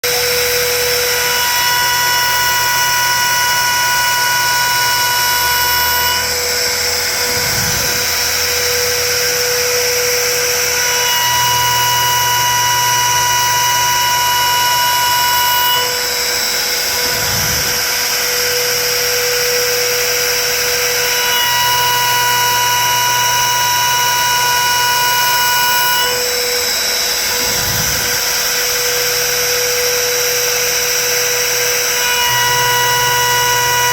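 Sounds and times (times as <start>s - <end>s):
cnc machine whining: 0.0s - 33.9s.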